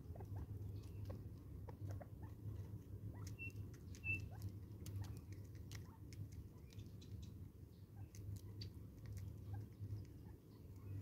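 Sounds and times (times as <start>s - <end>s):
small bird chirps: 0.1s - 11.0s.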